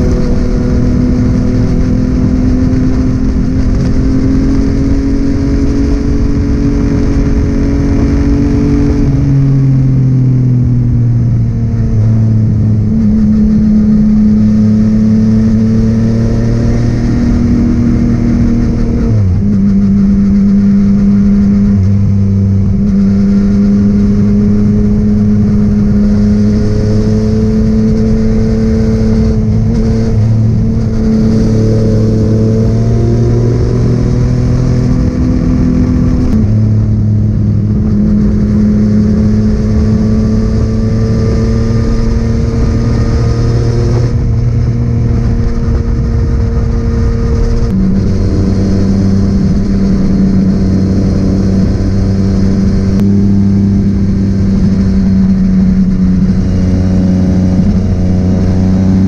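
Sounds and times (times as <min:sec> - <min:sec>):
motorcycle engine drone: 0:00.0 - 0:59.0
wind rush: 0:00.0 - 0:59.0.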